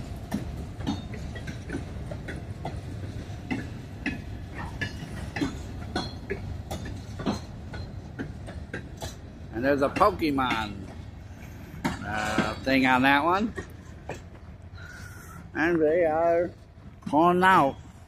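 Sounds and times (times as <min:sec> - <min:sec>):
freight train rumbling: 0:00.0 - 0:18.0
train wheels clicking and clanking: 0:00.0 - 0:18.0.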